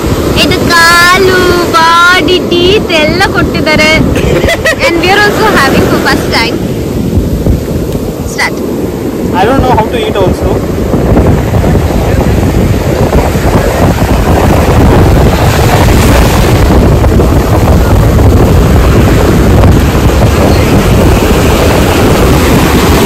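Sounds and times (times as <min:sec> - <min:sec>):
breaking surf: 0:00.0 - 0:23.0
wind buffeting microphone: 0:00.0 - 0:23.0.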